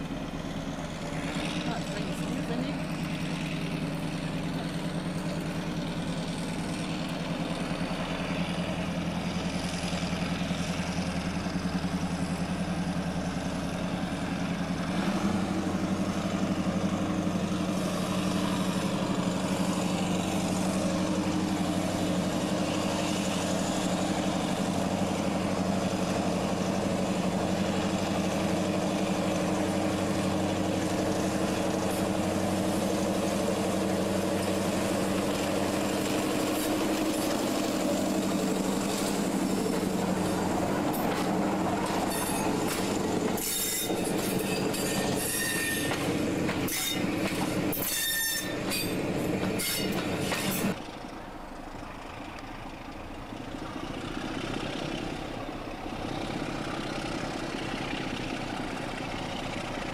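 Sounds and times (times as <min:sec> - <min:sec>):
diesel locomotive engines: 0:00.0 - 0:59.9.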